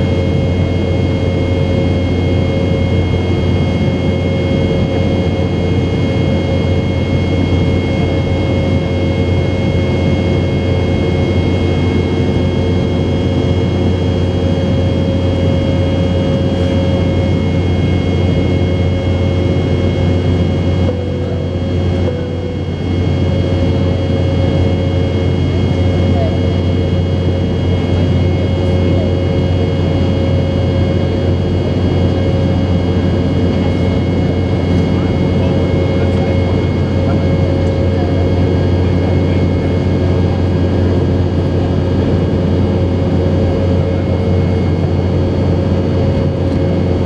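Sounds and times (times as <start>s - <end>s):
jet engine drone: 0.0s - 47.0s
steady whining tones: 0.0s - 47.0s.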